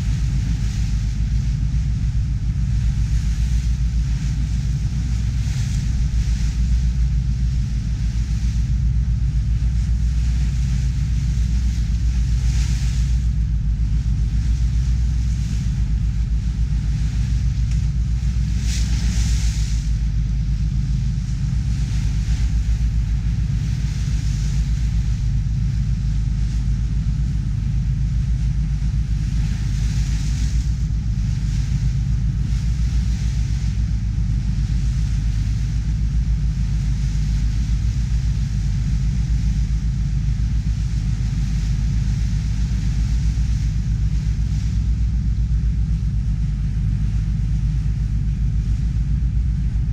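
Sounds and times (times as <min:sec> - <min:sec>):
ferry engine droning: 0:00.0 - 0:49.9
rushing water: 0:00.0 - 0:49.9
wind: 0:00.0 - 0:49.9.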